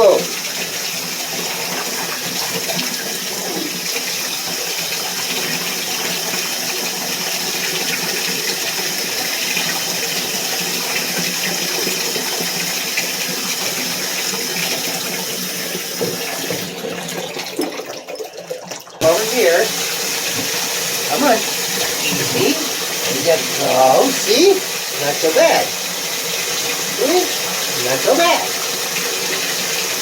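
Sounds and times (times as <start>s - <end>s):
water running into a bath: 0.0s - 30.0s.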